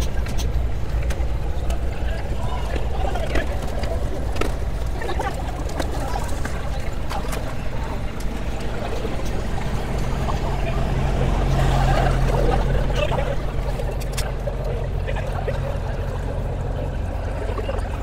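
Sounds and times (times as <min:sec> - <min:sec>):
faint murmur of people: 0:00.0 - 0:18.0
low droning hum: 0:00.0 - 0:18.0.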